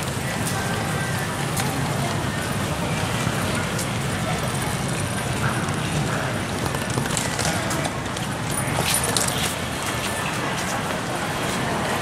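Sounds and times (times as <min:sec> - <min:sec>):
crowd footsteps: 0:00.0 - 0:12.0.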